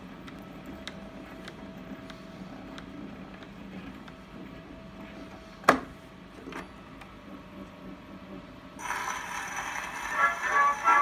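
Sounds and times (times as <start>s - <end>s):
phonograph mechanical hum and ticks: 0.0s - 11.0s.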